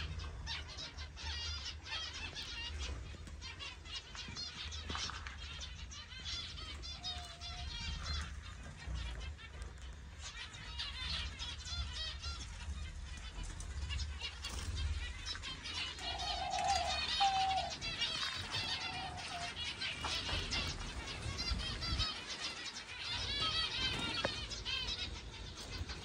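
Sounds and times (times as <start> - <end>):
finches chirping: 0.0 - 26.0
longer lower bird calls: 0.0 - 26.0.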